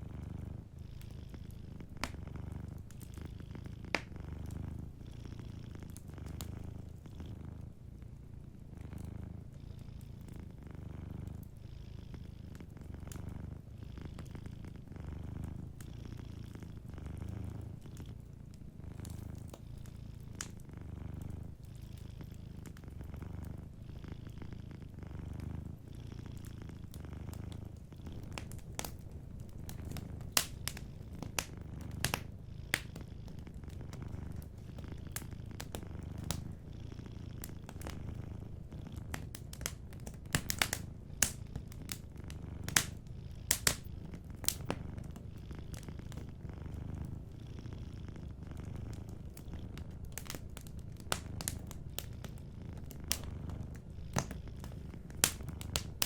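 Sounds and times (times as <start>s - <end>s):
cat purring: 0.0s - 56.0s
wood fire crackling: 1.4s - 7.8s, 16.5s - 47.4s, 48.2s - 56.0s.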